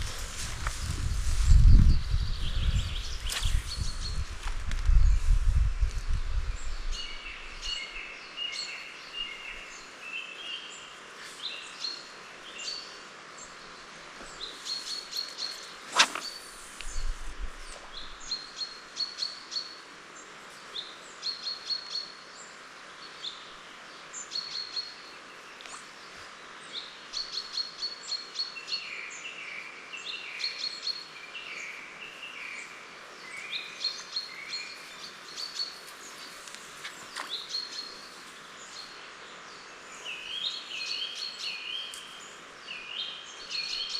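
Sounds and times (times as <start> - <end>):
songbirds singing: 0.0 - 43.9
steady background hiss: 0.0 - 43.9.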